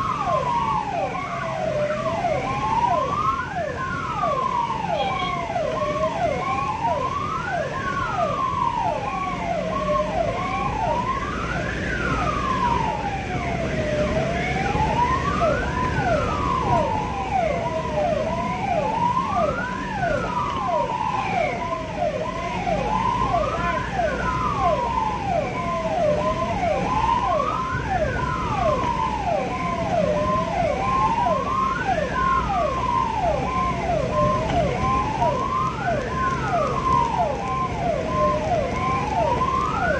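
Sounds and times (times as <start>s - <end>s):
ambulance siren wailing: 0.0s - 39.9s
road and engine noise: 0.0s - 39.9s
siren chirps: 0.0s - 39.9s.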